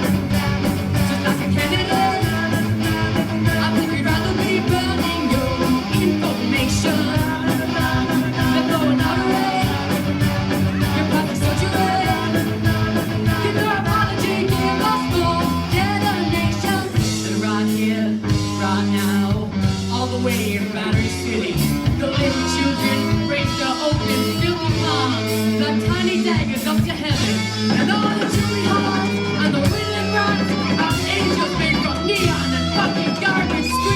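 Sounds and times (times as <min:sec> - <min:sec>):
rock band playing live: 0:00.0 - 0:33.9.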